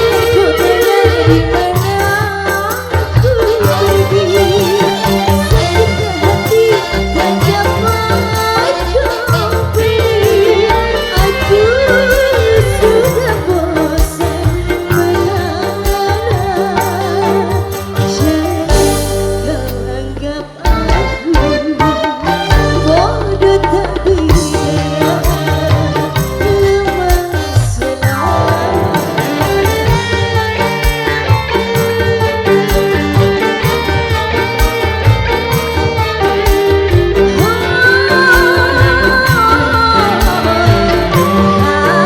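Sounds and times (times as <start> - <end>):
live band playing: 0.0 - 42.0.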